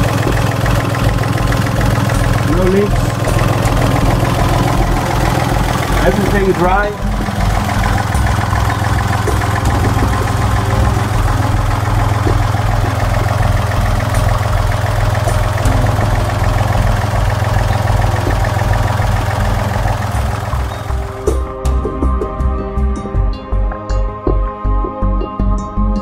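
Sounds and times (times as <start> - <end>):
boat engine idling: 0.0 - 21.5.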